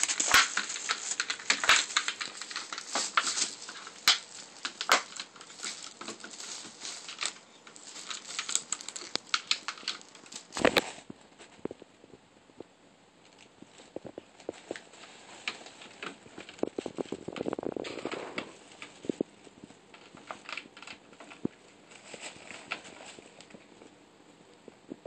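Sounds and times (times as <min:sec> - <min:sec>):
tissue paper crinkling: 0:00.0 - 0:11.7, 0:13.2 - 0:23.9.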